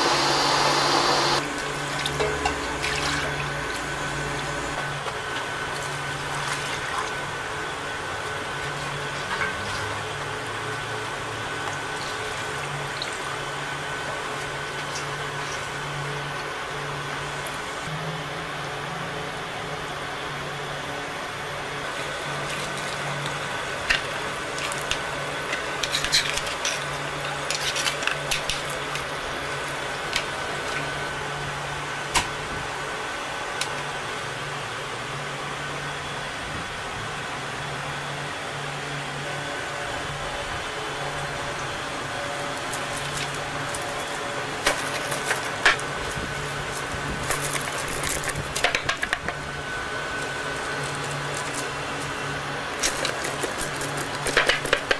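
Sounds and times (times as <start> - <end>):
factory machinery hum: 0.0 - 54.9.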